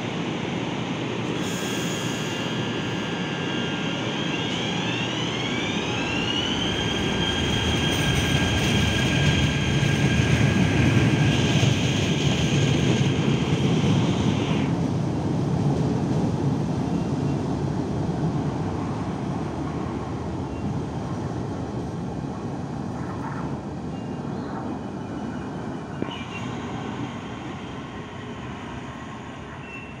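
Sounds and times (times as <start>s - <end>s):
electric train rumbling on rails: 0.0s - 30.0s.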